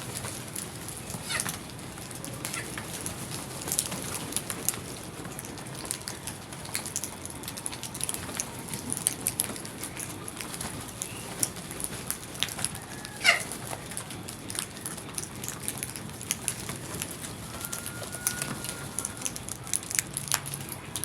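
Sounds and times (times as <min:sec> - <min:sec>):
bird chatter: 0:00.1 - 0:04.8, 0:07.7 - 0:20.0.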